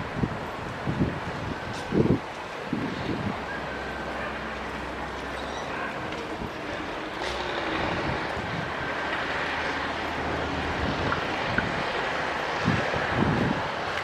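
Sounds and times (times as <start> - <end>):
broad rushing noise: 0.0 - 14.0
diesel engine drone: 0.0 - 14.0.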